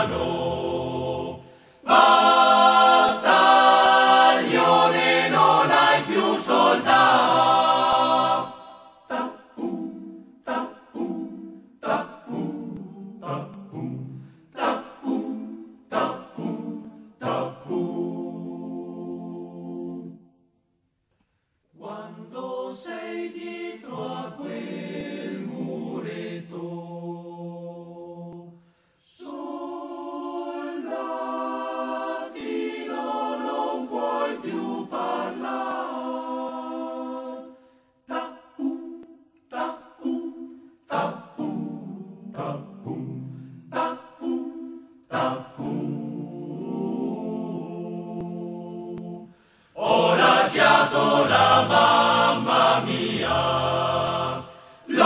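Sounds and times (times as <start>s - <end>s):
choir singing a cappella: 0.0s - 20.5s, 21.7s - 55.0s.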